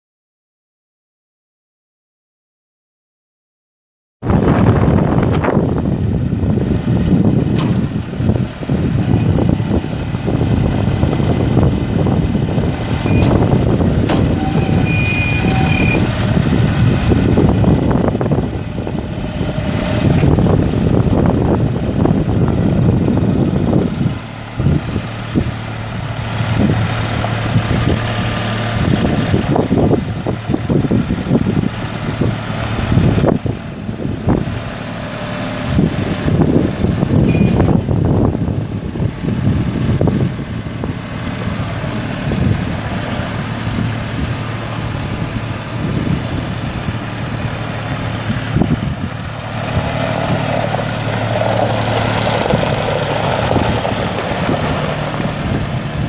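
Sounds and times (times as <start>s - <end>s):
tractor diesel engine running: 4.3s - 56.0s.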